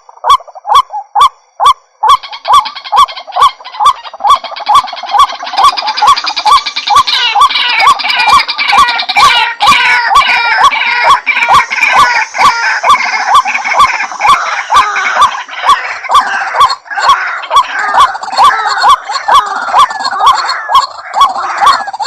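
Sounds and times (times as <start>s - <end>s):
overlapping chatter of bird calls: 0.0s - 22.0s
waterhen calls: 0.0s - 22.0s.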